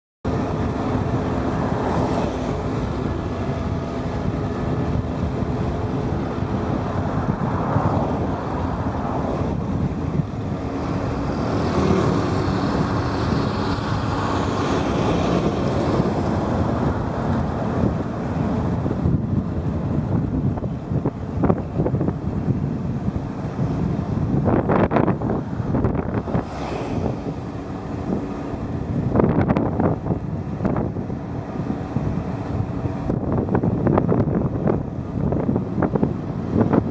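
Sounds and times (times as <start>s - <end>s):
road noise: 0.2s - 36.9s
motorcycle engine hum: 0.3s - 36.9s
wind buffeting microphone: 0.3s - 36.9s.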